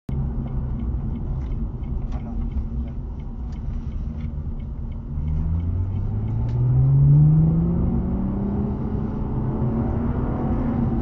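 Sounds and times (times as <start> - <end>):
car engine accelerating: 0.1 - 11.0.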